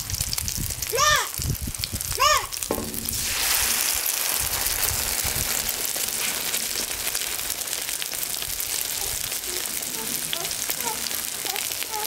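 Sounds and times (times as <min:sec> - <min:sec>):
food sizzling and crackling in oil: 0:00.0 - 0:12.0.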